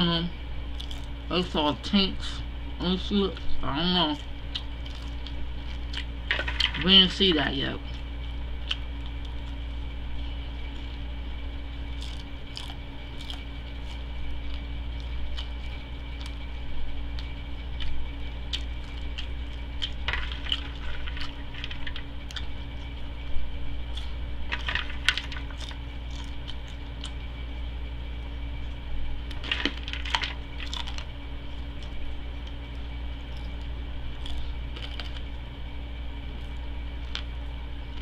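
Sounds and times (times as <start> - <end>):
steady low hum: 0.0 - 38.0
crunching popcorn: 0.6 - 38.0.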